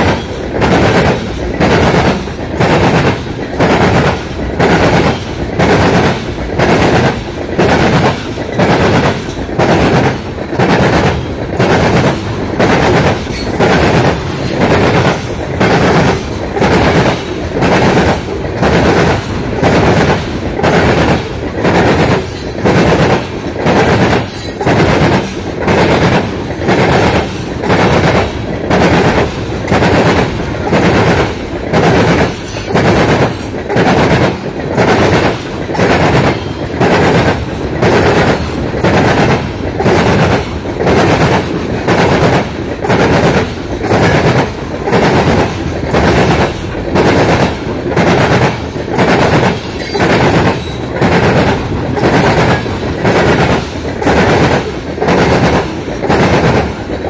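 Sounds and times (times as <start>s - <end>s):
train wheels clattering: 0.0s - 57.0s.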